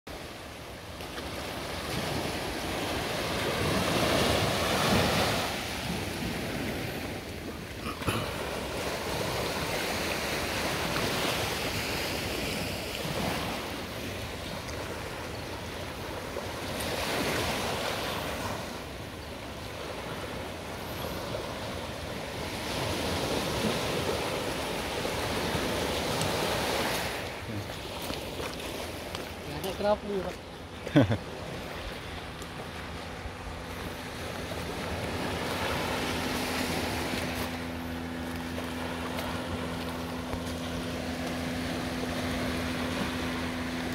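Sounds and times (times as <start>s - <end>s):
small waves washing over sand: 0.1s - 43.9s.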